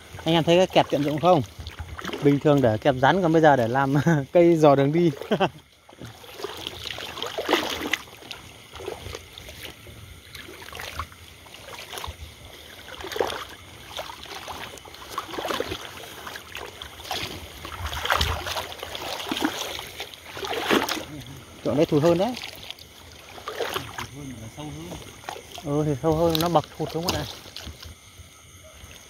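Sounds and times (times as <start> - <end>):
person wading through water: 0.0 - 29.0.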